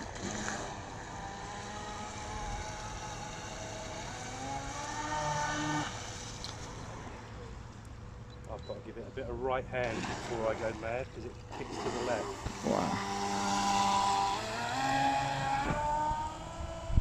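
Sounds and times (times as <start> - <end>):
electric motor whine: 0.0 - 7.9, 9.9 - 17.0.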